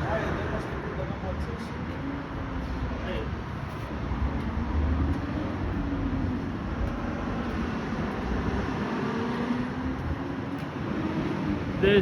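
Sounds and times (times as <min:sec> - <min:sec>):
heavy vehicle engine droning: 0:00.0 - 0:12.0.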